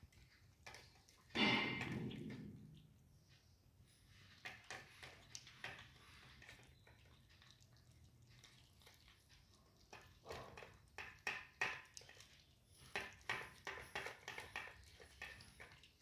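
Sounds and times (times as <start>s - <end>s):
kittens chewing wetly: 0.0s - 16.0s.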